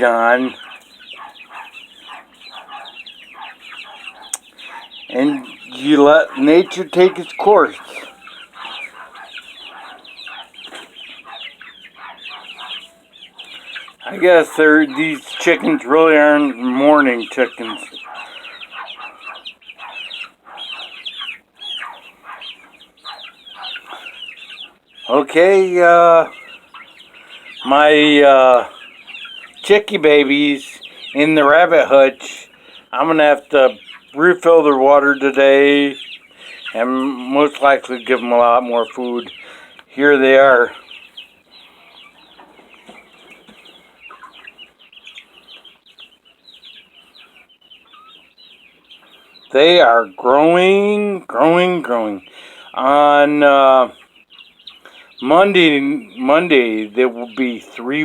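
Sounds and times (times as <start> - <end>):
chickens clucking and calling: 0.0 - 58.0.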